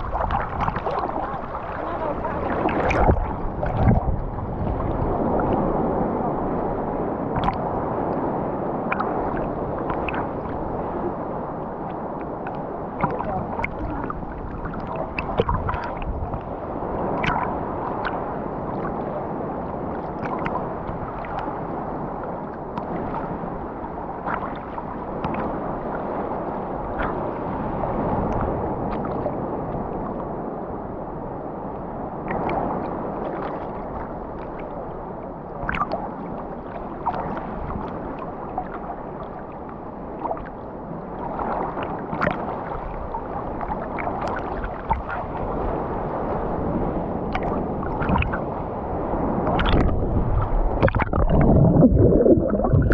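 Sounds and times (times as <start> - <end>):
seawater sloshing and splashing: 0.0 - 6.0, 7.3 - 7.8, 8.8 - 19.0, 19.8 - 30.1, 32.2 - 52.9.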